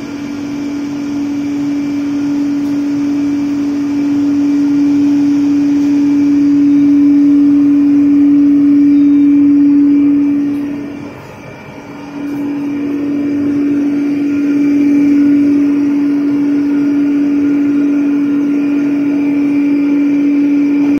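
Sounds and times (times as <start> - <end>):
stirrer motor humming: 0.0 - 20.9.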